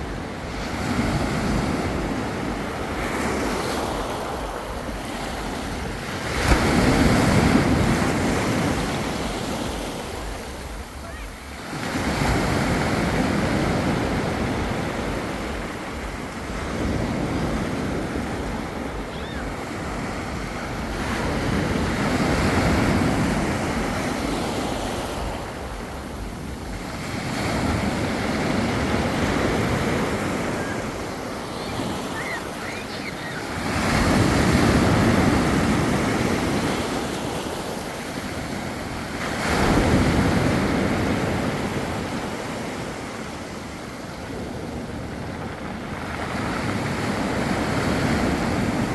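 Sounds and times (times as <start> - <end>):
waves breaking on beach: 0.0 - 48.9
wind on microphone: 0.0 - 48.9.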